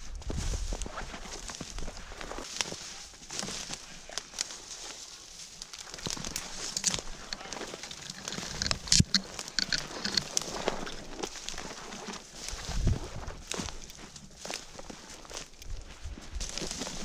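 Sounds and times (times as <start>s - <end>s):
footsteps crunching in snow: 0.0s - 17.0s
twigs brushing and crackling: 0.0s - 17.0s.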